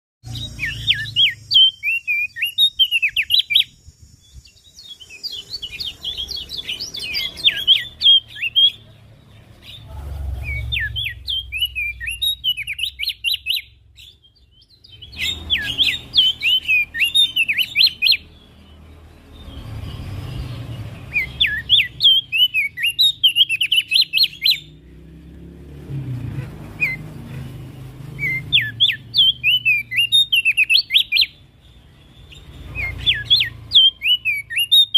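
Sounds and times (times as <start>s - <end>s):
bird singing chirpy notes: 0.2s - 25.5s, 26.2s - 34.9s.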